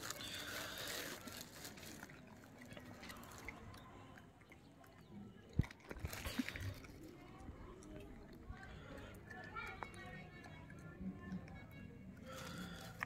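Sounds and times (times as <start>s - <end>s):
faint crunching and crackling: 0.0s - 13.0s.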